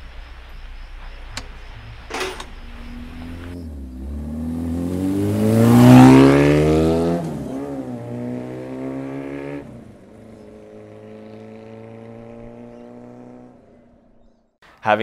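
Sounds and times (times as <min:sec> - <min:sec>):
motorcycle accelerating past: 0:02.4 - 0:14.5.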